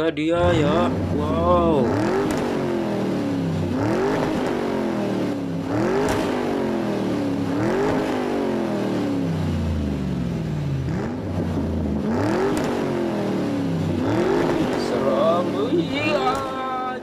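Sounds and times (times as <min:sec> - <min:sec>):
car engine revving: 0:00.3 - 0:17.0.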